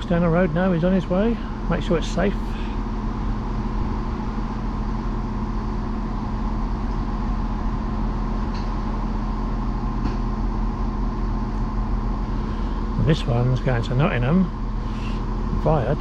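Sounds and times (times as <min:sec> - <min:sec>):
diesel train engine idling: 0:00.0 - 0:16.0.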